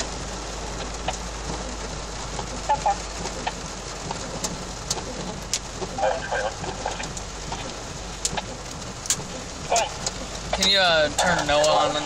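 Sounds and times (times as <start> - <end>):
heavy rain on car roof: 0.0 - 12.0
low hum: 0.0 - 12.0
raindrops ticking on glass: 0.0 - 12.0.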